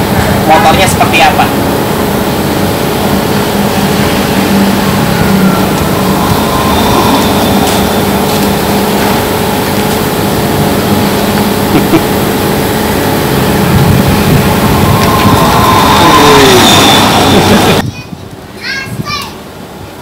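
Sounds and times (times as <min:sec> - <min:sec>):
mechanical drone: 0:00.0 - 0:18.4.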